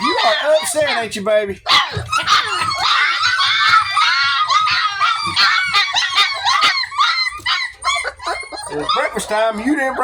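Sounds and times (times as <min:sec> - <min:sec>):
puppies whining and yelping: 0:00.0 - 0:10.0.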